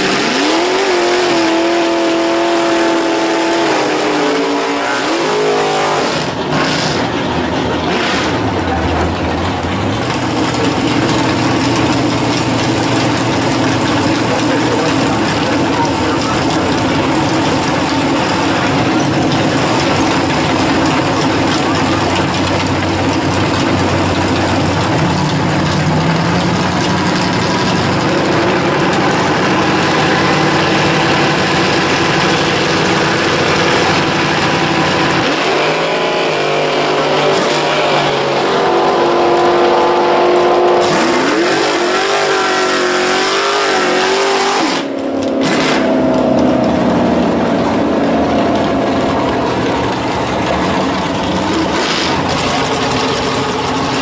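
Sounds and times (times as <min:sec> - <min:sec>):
drag car engine revving: 0:00.0 - 0:54.0.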